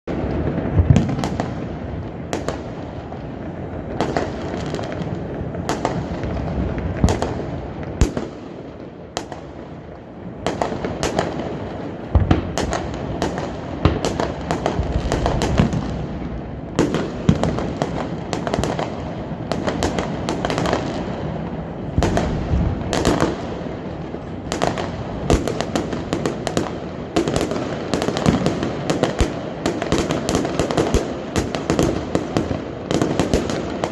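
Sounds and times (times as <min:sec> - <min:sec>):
fireworks bursting and crackling: 0:00.0 - 0:33.9.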